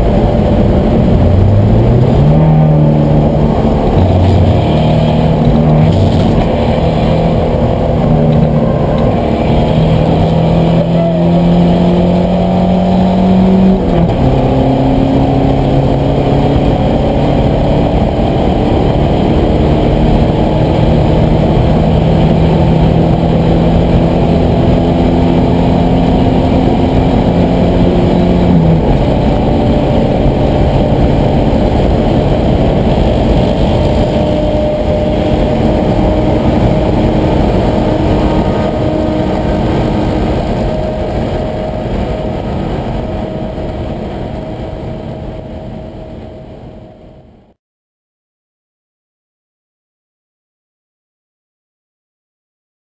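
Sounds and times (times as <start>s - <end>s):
race car engine at full throttle: 0.0s - 47.6s.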